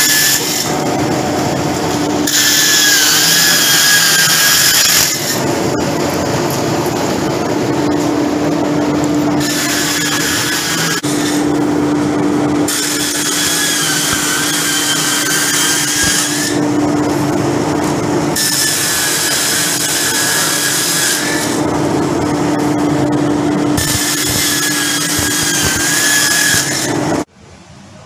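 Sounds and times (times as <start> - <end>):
roller machine humming: 0.0 - 27.4.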